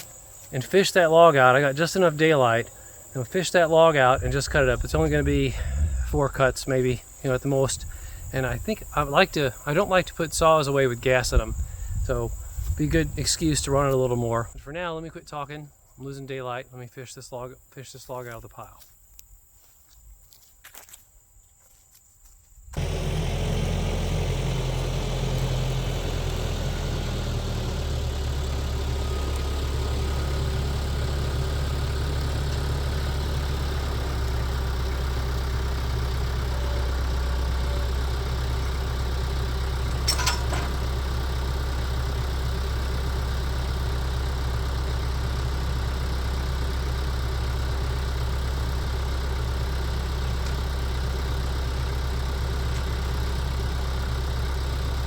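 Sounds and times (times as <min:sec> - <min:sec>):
machine engine running at low speed: 0:00.0 - 0:14.6, 0:22.8 - 0:55.0.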